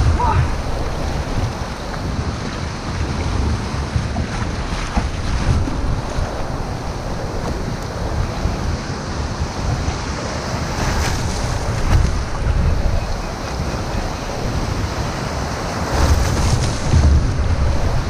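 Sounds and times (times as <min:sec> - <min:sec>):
breaking surf: 0:00.0 - 0:18.0
wind buffeting microphone: 0:00.0 - 0:18.0.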